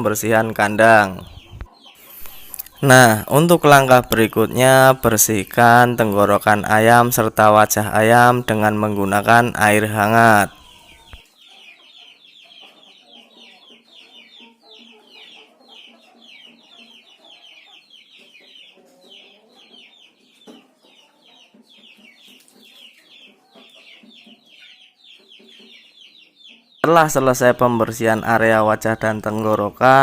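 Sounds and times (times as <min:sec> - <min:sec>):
chickens clucking: 0:00.0 - 0:30.0
chicks peeping: 0:00.0 - 0:30.0.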